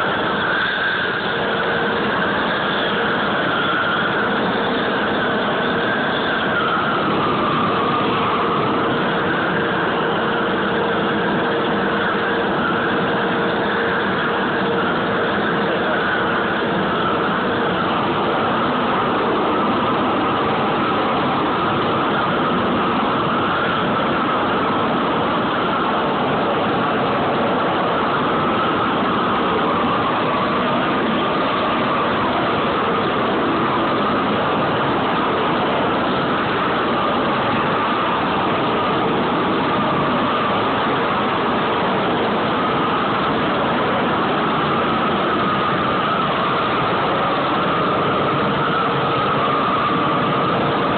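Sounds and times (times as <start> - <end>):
gas torch burning: 0.0 - 50.9.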